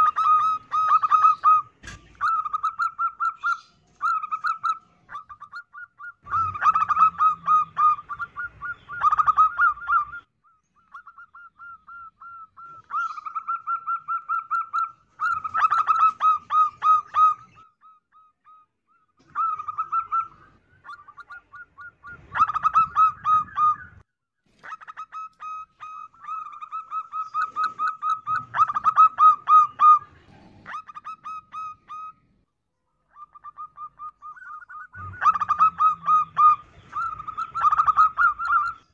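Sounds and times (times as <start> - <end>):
dove cooing song: 0.0 - 24.0, 24.6 - 32.4, 33.1 - 38.9.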